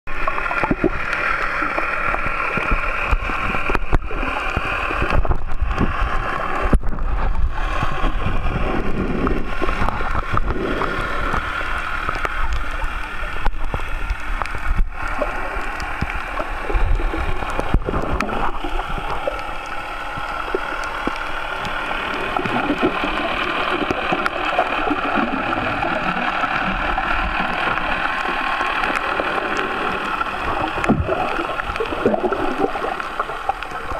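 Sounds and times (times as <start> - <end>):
bubbles streaming: 0.1 - 33.9
muffled underwater water rush: 0.1 - 33.9.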